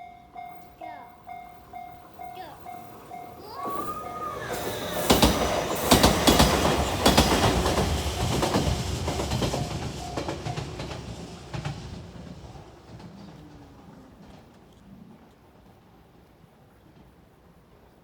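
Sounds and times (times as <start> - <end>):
train wheels clacking over rail joints: 0.0 - 14.8.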